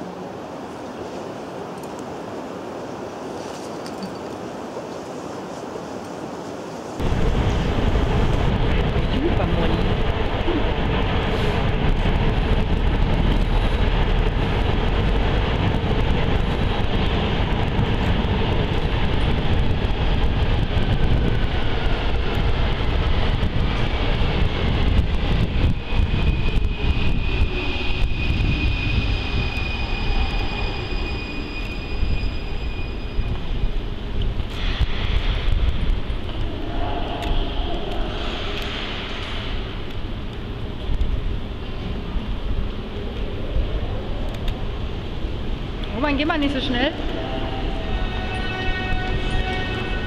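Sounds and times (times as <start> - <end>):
underground trains rumbling: 0.0 - 50.0.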